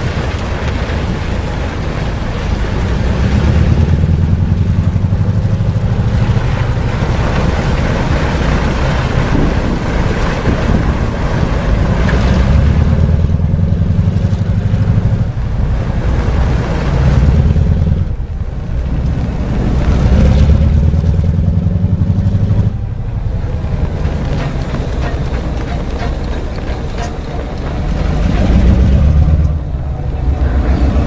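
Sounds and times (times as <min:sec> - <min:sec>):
snow and wind rushing: 0:00.0 - 0:31.0
train rumbling: 0:00.0 - 0:31.0.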